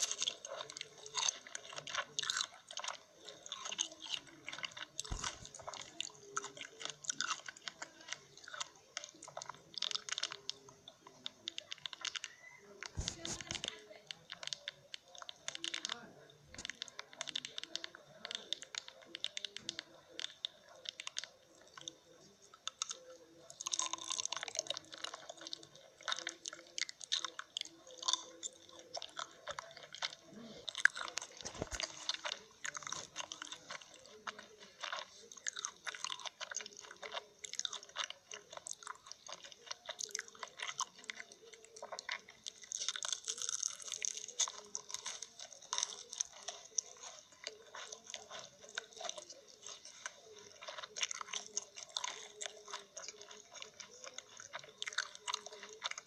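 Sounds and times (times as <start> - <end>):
mouth clicks: 0.0 - 56.0
person chewing crunchy food: 0.0 - 56.0.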